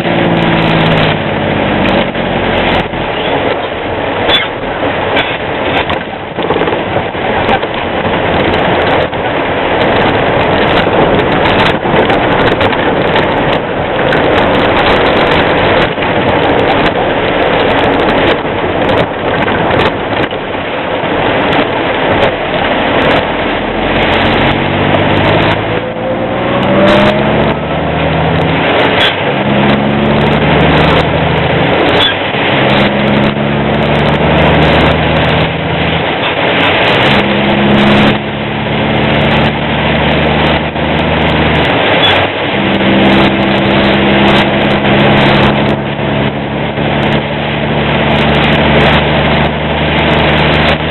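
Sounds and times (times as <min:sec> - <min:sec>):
truck engine: 0:00.0 - 0:50.9
tyre and rain noise: 0:00.0 - 0:50.9.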